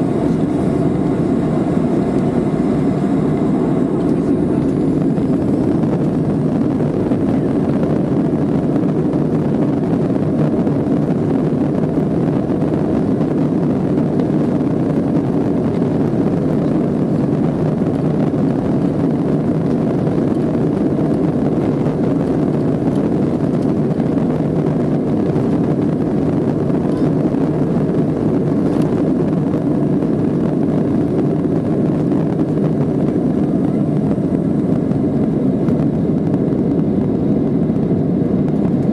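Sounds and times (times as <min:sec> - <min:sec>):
jet engines roaring at takeoff: 0:00.0 - 0:38.9.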